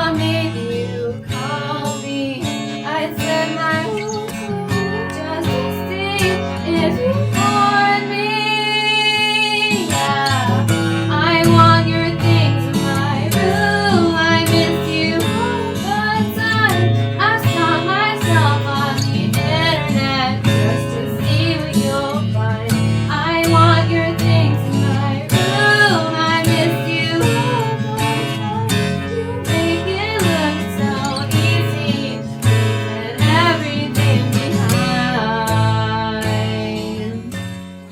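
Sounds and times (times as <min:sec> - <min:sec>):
acoustic guitar: 0:00.0 - 0:37.9
woman singing: 0:00.0 - 0:37.9.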